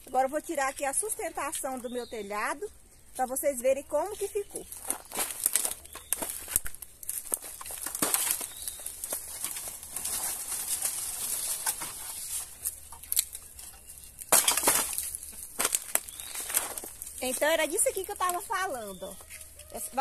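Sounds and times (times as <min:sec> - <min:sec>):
vine leaves rustling and crackling: 0:00.0 - 0:20.0.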